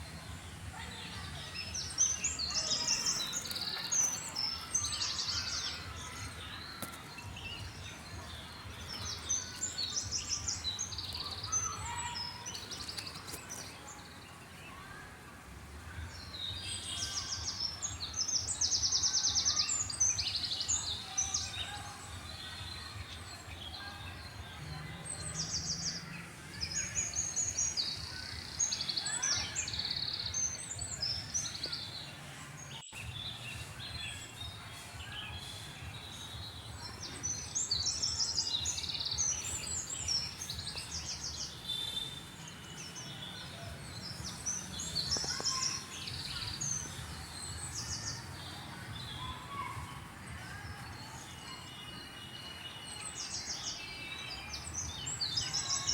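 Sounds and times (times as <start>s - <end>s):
small birds chirping and trilling: 0.0s - 55.9s.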